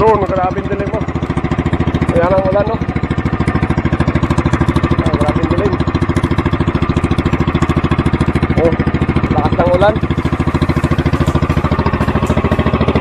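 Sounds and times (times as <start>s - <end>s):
boat engine puttering: 0.0s - 13.0s.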